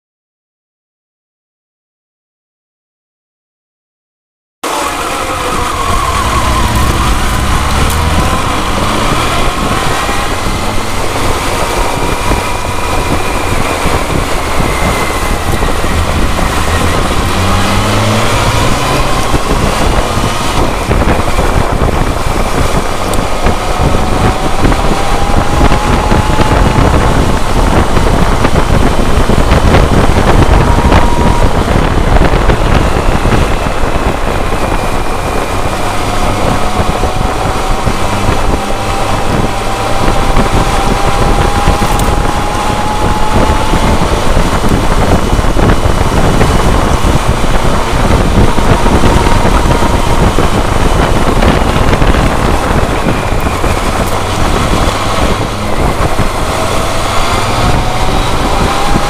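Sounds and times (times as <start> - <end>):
wind buffeting microphone: 4.6 - 59.0
motorcycle engine running: 4.7 - 59.0.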